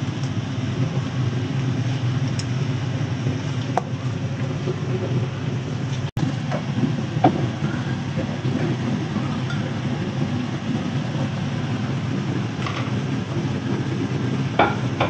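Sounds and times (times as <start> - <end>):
extractor fan humming: 0.0 - 15.0.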